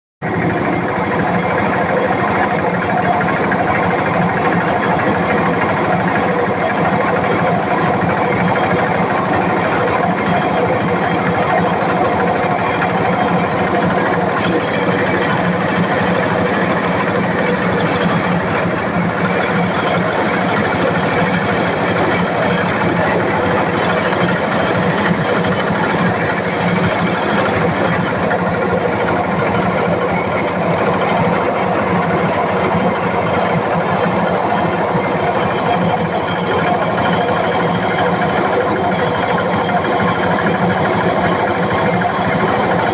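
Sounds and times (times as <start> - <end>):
vehicle engine running: 0.2 - 42.9.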